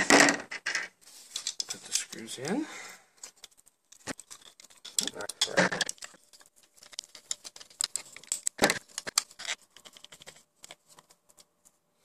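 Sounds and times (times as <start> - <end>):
plastic parts clicking and scraping: 0.0 - 11.8.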